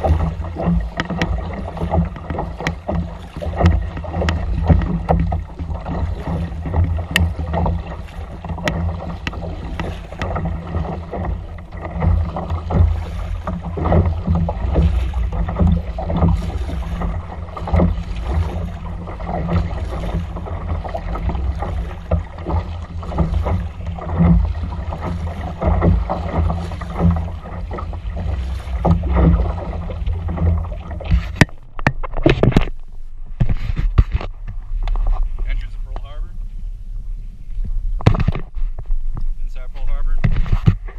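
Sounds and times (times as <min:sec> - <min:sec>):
paddle splashing water: 0:00.0 - 0:40.9.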